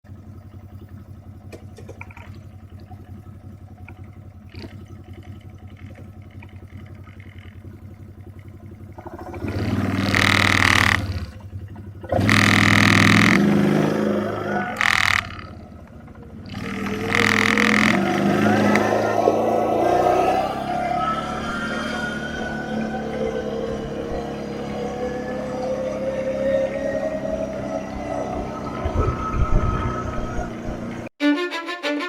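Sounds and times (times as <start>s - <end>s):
quad bike engine idling: 0.1s - 31.1s
quad bike engine revving: 0.4s - 31.1s.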